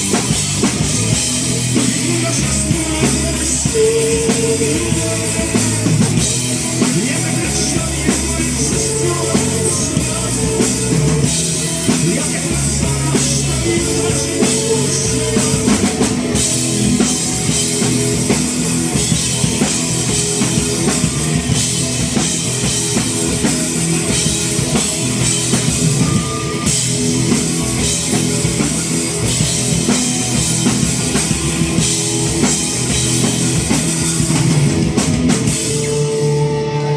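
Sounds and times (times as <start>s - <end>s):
drum kit: 0.0s - 36.9s
rock band playing: 0.0s - 36.9s.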